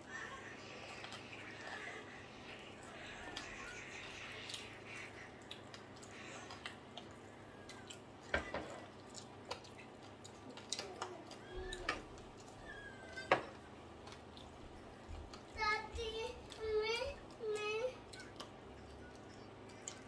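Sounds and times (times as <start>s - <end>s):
chewing and lip smacks: 0.7s - 15.6s, 16.3s - 20.0s.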